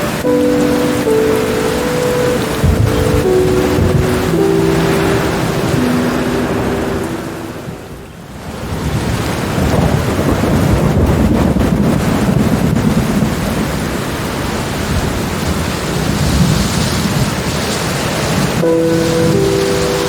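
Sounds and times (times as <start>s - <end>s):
heavy rain: 0.0s - 20.0s
thunder rumbling: 0.0s - 20.0s.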